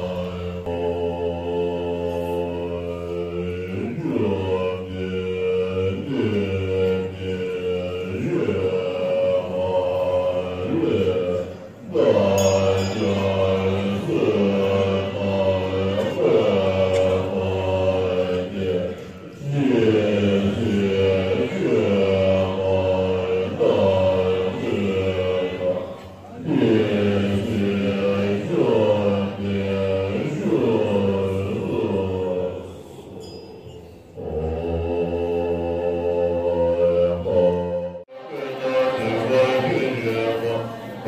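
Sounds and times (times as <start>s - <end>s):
monks chanting in unison: 0.0s - 41.0s.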